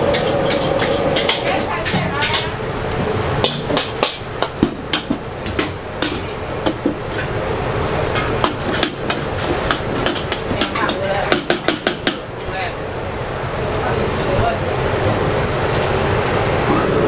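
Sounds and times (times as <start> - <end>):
frying hiss: 0.0 - 17.0.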